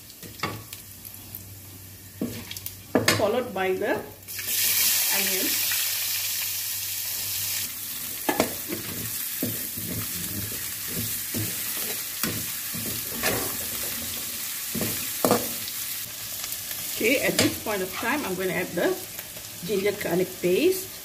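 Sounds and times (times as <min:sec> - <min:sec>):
onions sizzling in oil: 0:03.6 - 0:21.0.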